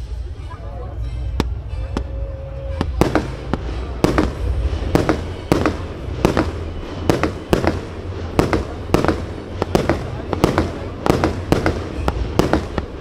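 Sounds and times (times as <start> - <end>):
low rumble: 0.0 - 13.0
fireworks bangs: 1.4 - 13.0.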